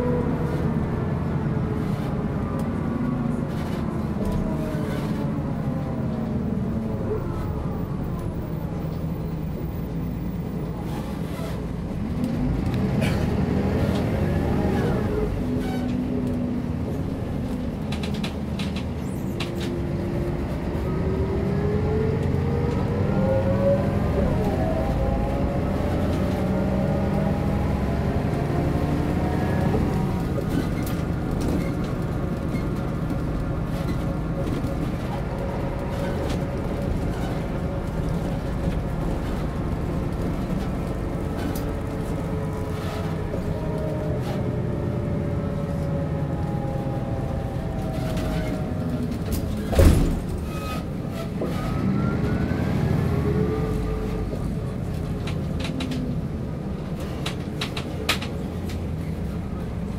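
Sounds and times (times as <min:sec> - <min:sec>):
bus engine driving: 0:00.0 - 0:59.9.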